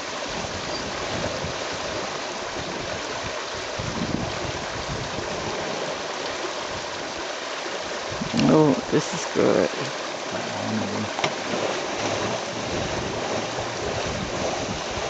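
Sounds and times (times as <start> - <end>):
rain hiss: 0.0 - 14.4
moving water: 0.0 - 15.0.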